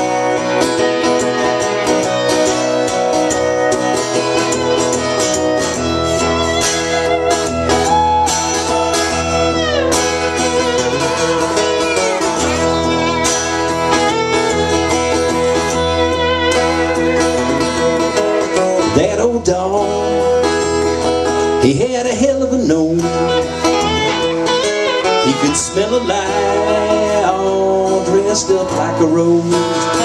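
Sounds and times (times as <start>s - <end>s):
lap steel guitar melody: 0.0s - 30.0s
strummed acoustic guitar: 0.0s - 30.0s.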